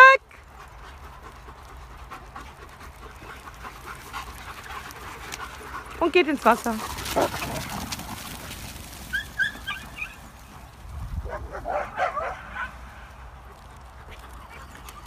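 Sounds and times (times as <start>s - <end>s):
dogs yipping and barking: 0.0s - 15.0s.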